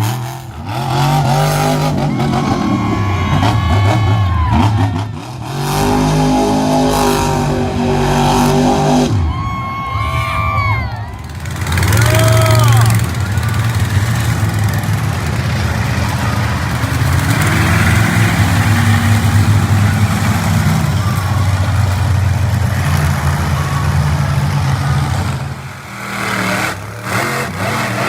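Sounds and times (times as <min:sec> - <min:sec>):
monster truck engine running: 0:00.0 - 0:28.0.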